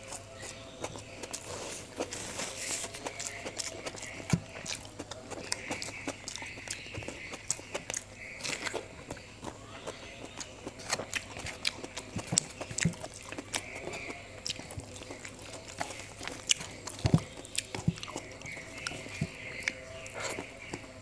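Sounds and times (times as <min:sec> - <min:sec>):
chewing and lip smacking: 0:00.0 - 0:21.0.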